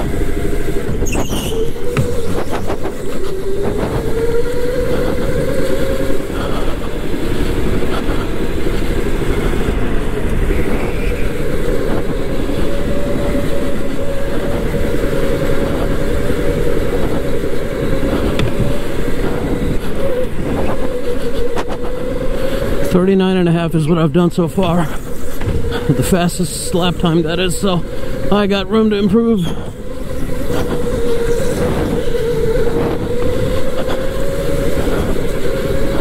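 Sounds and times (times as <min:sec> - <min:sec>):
electric motor whining: 0:00.0 - 0:36.0
kart rumbling and rattling on track: 0:00.0 - 0:36.0.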